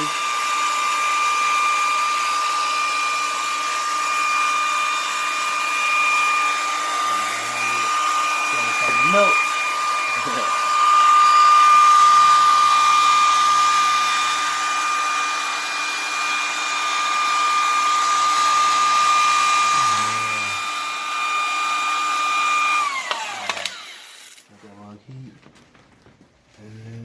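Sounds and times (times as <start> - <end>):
heat gun whining: 0.0 - 24.5.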